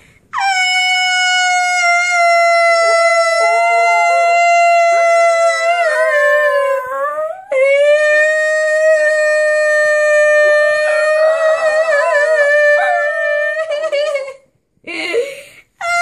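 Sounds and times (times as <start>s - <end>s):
dog howling: 0.4s - 13.7s
person howling: 0.4s - 13.9s.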